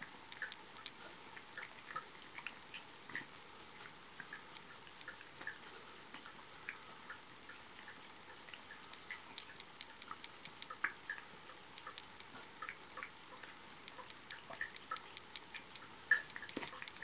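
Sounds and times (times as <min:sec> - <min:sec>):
cat licking and lapping water: 0:00.0 - 0:17.0.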